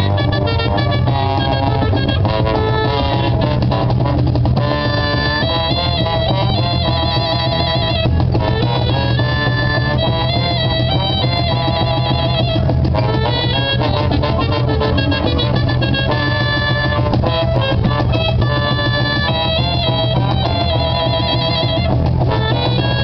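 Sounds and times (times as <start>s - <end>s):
bass line: 0.0s - 23.0s
cajon drumming: 0.0s - 23.0s
guitars: 0.0s - 23.0s
trombone melody: 0.0s - 23.0s
violin melody: 0.0s - 23.0s.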